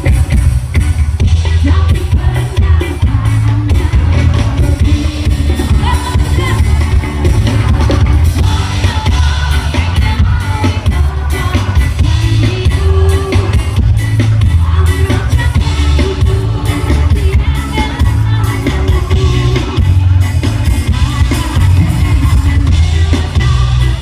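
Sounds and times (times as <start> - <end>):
live band music: 0.0 - 24.0
steady drum beat: 0.0 - 24.0
person singing: 1.3 - 24.0.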